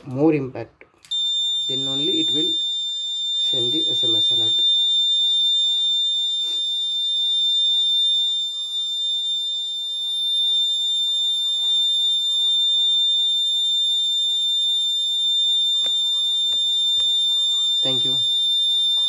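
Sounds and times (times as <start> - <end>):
continuous alarm buzzer tone: 1.1 - 19.0.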